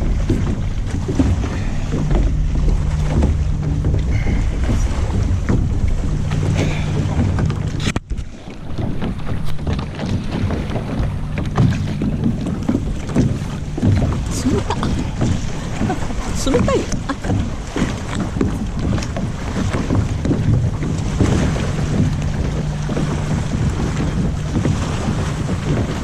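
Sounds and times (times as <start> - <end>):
boat gear knocking: 0.0 - 26.0
water: 0.0 - 26.0
wind buffeting microphone: 0.0 - 26.0.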